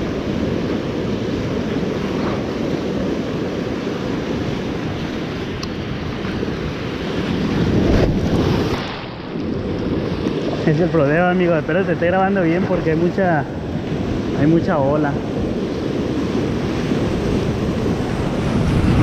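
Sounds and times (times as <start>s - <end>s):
waves breaking on seawall: 0.0s - 19.0s
wind buffeting microphone: 0.0s - 19.0s.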